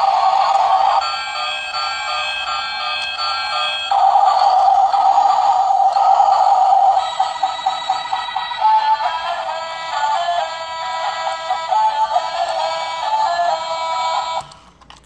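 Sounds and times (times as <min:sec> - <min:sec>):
toy train electronic melody: 0:00.0 - 0:14.6.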